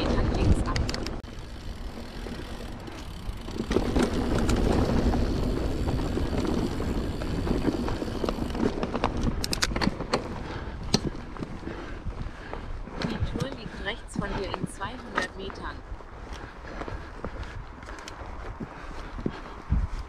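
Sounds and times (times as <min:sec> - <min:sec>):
bike rattling and clicking: 0:00.0 - 0:20.0
bike tyre rumble: 0:00.0 - 0:20.0.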